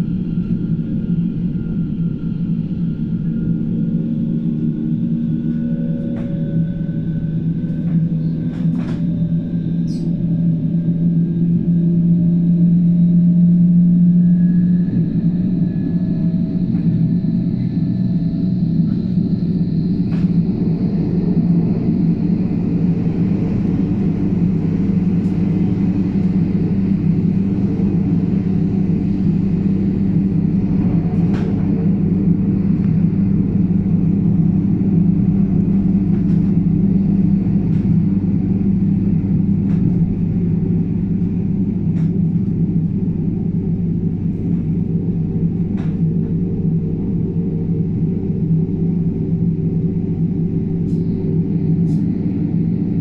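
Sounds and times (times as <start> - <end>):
faint rising whine: 0.0 - 53.0
train running rumble: 0.0 - 53.0.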